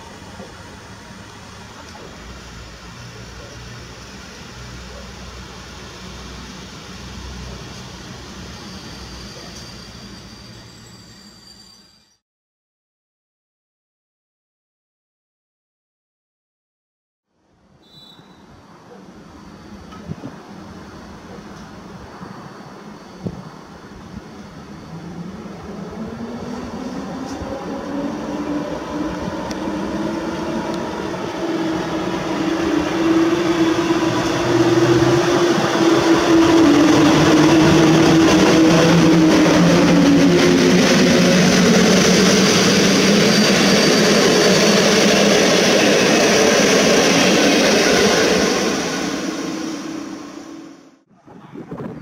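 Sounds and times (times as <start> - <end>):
train wheels rumbling on rails: 0.0 - 11.2, 18.7 - 50.8
electric locomotive humming: 0.0 - 12.0, 18.2 - 51.0.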